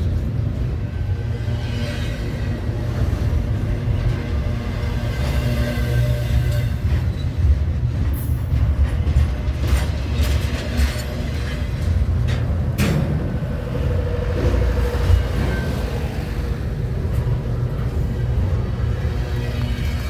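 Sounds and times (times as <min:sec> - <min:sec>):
freight train rumble: 0:00.0 - 0:20.0
sharp train clanks: 0:00.0 - 0:20.0.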